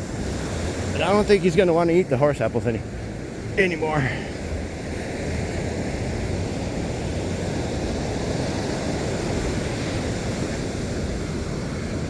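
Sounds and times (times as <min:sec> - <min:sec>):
surf rushing: 0:00.0 - 0:12.0.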